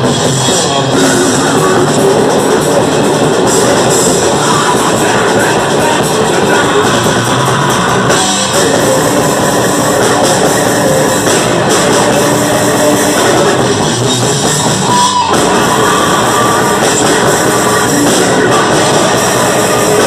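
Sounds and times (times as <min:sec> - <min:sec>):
bass guitar: 0:00.0 - 0:20.0
distorted electric guitar: 0:00.0 - 0:20.0
drum kit: 0:00.0 - 0:20.0.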